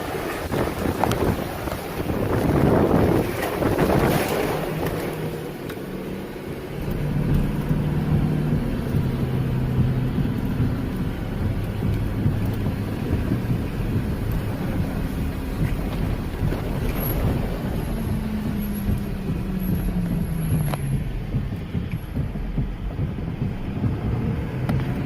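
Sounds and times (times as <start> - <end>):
wind buffeting microphone: 0.0 - 25.0
low hum: 2.6 - 25.0.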